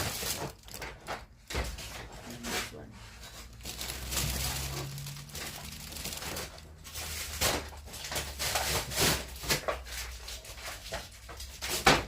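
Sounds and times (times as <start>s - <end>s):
packaging rustling: 0.0s - 2.2s, 3.2s - 11.8s.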